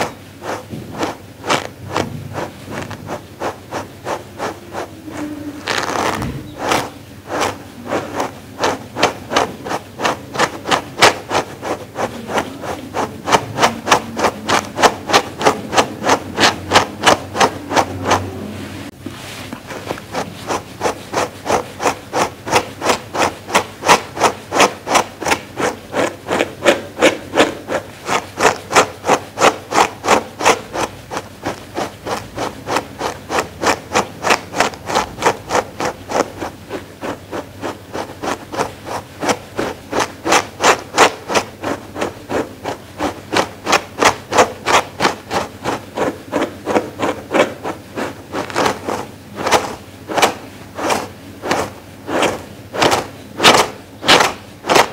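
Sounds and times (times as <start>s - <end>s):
brush stroking through fur: 0.0s - 54.9s.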